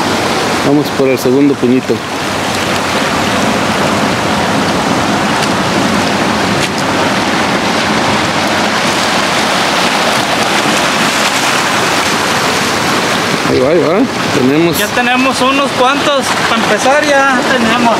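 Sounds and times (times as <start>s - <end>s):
ocean surf over rocks: 0.0s - 17.9s.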